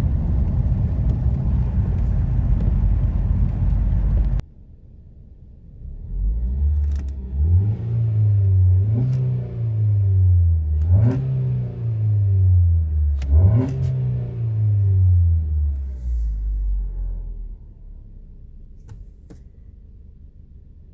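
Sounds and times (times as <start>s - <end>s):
car engine revving: 0.0s - 4.4s, 5.8s - 18.1s.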